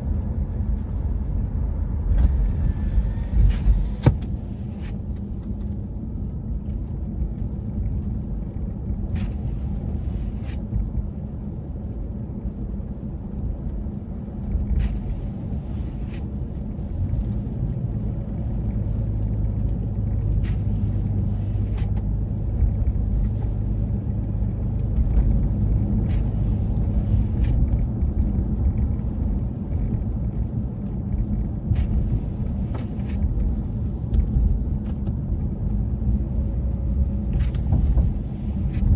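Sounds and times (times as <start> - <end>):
low hum: 0.0 - 38.9
low rumble: 0.0 - 38.9.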